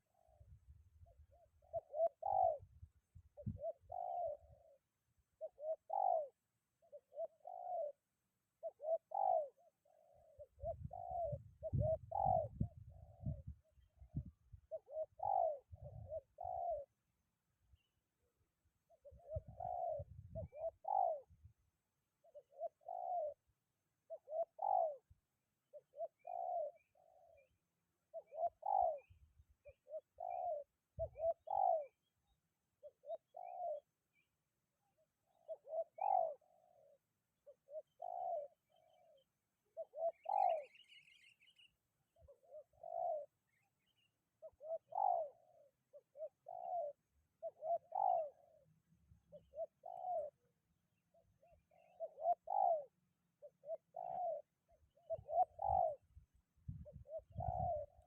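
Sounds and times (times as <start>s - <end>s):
doves cooing: 0.0s - 8.0s, 8.6s - 17.1s, 18.7s - 32.1s, 32.8s - 33.9s, 34.9s - 58.0s
small bird chirp: 0.0s - 8.0s, 8.6s - 17.0s, 24.1s - 58.0s.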